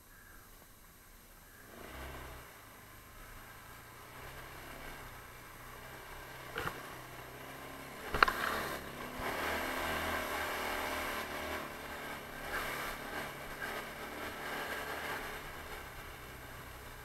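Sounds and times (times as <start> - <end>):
quad bike engine running: 1.6 - 17.0.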